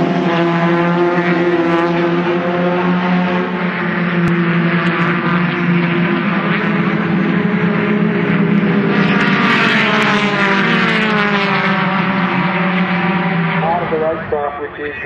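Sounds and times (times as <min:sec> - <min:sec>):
race car engines droning: 0:00.0 - 0:15.0
race car passing by: 0:00.0 - 0:15.0.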